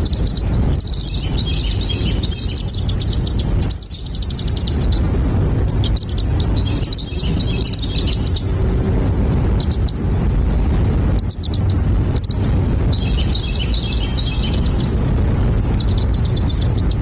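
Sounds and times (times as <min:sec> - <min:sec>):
small birds chirping: 0:00.0 - 0:10.0, 0:11.1 - 0:17.0
steady low rumble: 0:00.0 - 0:17.0.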